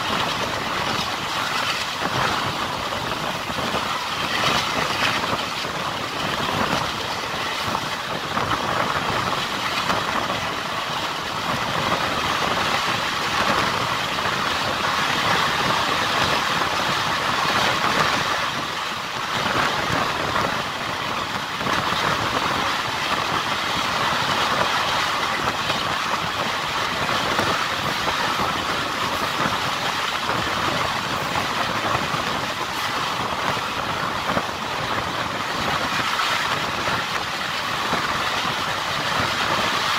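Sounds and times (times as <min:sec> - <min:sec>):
train wheels on rails: 0:00.0 - 0:39.9.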